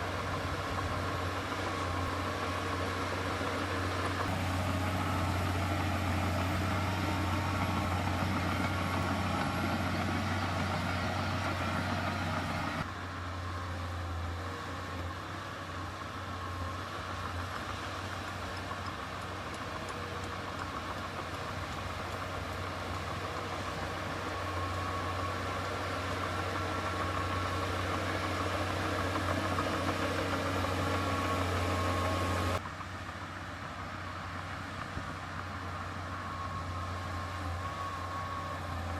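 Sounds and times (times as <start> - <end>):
heavy diesel engine humming: 0.0 - 38.9.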